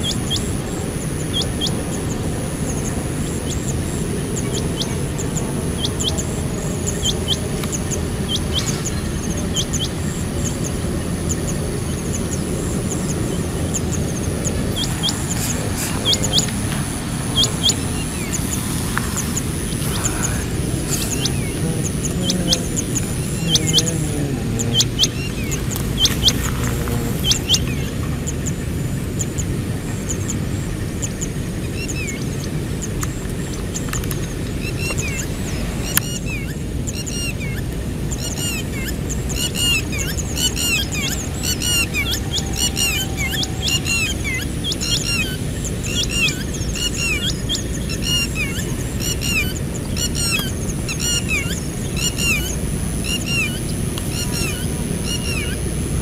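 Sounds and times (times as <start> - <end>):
small birds chirping: 0.0 - 56.0
steady low rumble: 0.0 - 56.0.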